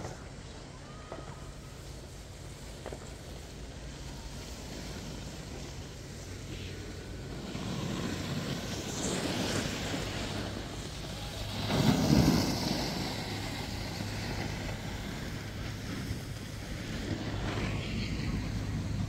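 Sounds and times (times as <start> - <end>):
snowboard scraping on snow: 1.6 - 19.0
wind noise on microphone: 3.7 - 19.0.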